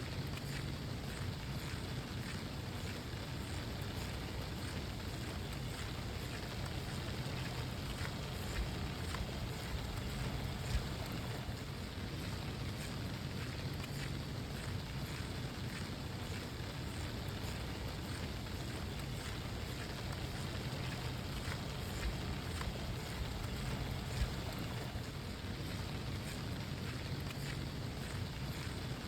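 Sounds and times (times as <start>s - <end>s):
steady rain falling: 0.0s - 29.0s
drops ticking: 0.4s - 12.9s, 13.8s - 28.8s.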